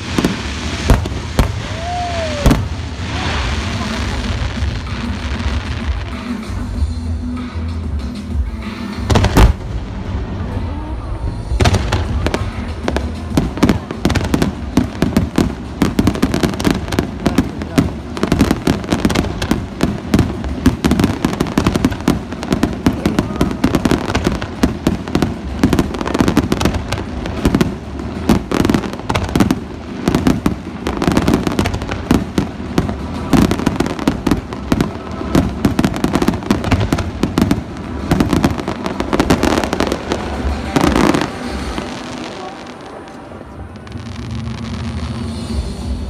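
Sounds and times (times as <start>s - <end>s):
fireworks bursting with bangs and crackles: 0.0s - 46.0s.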